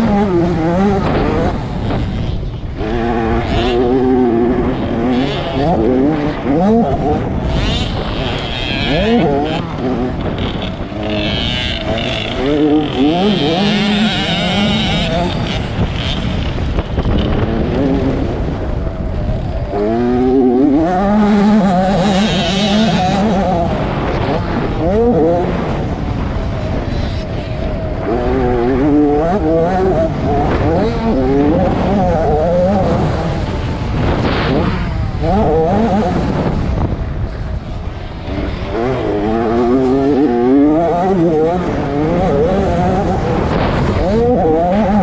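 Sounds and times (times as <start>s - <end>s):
ground rumble: 0.0s - 45.0s
motocross bike engine revving: 0.0s - 45.0s
wind: 0.0s - 45.0s.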